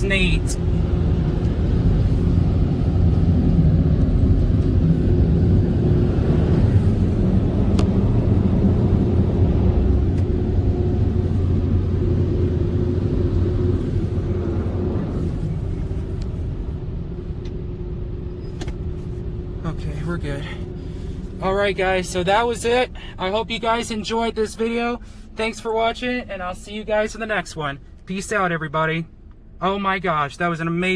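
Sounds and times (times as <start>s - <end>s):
car wash dryer blowers rumbling: 0.0s - 30.9s.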